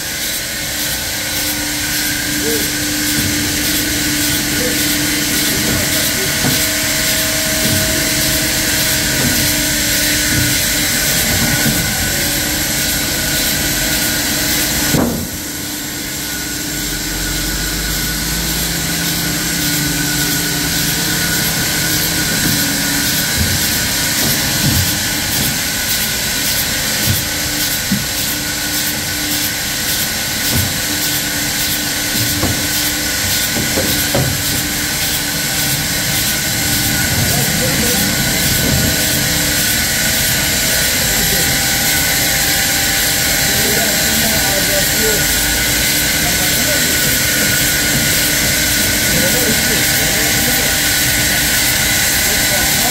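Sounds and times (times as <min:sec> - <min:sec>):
sawmill saw cutting logs: 0:00.0 - 0:52.9.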